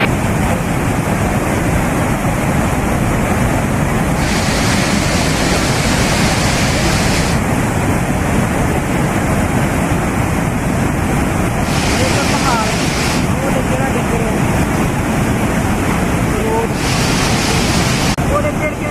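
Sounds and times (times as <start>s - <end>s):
floodwater rushing: 0.0s - 18.9s.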